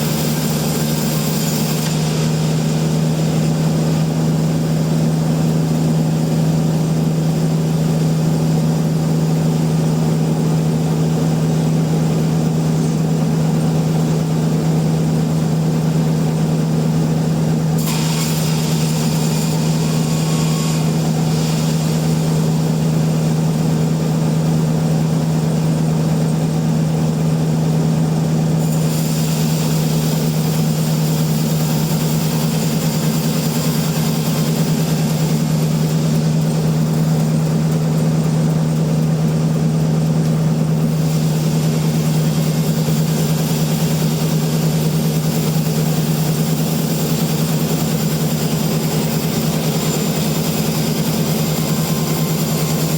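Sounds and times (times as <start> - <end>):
sawmill machinery hum: 0.0 - 52.9.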